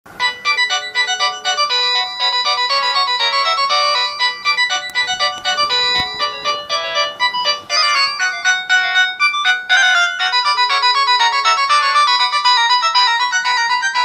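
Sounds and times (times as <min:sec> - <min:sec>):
phone ringtone melody: 0:00.1 - 0:14.0.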